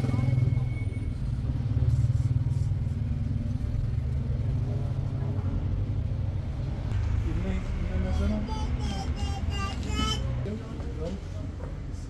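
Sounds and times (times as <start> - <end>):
low pulsing engine rumble: 0.0 - 10.8.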